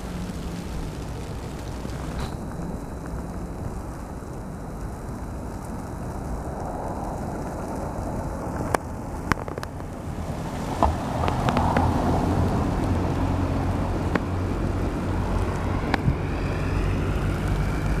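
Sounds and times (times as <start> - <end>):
traffic hiss on snowy road: 0.0 - 18.0
wind buffeting microphone: 0.0 - 18.0.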